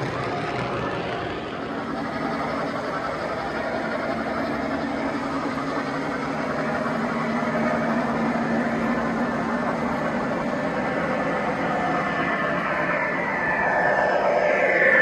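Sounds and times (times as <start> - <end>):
model train rumbling hum: 0.0 - 15.0.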